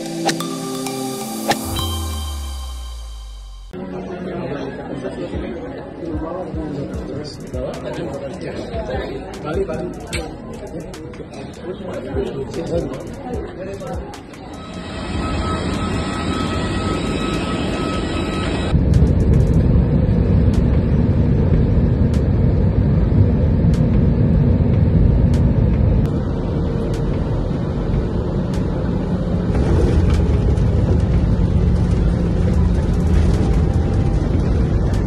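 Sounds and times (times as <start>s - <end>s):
jet engines and wheels rumbling: 6.9s - 35.0s.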